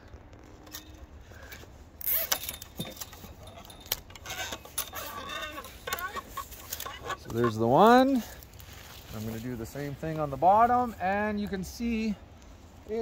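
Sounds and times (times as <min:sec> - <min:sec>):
jacket rustle: 0:00.0 - 0:12.0.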